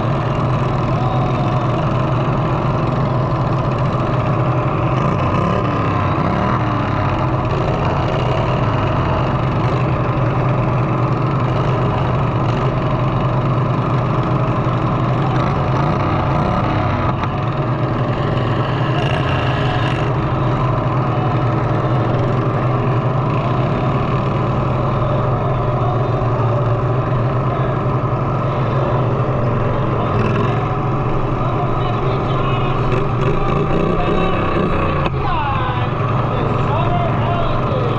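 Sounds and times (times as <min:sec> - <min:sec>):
lawnmower engines running: 0:00.0 - 0:37.9.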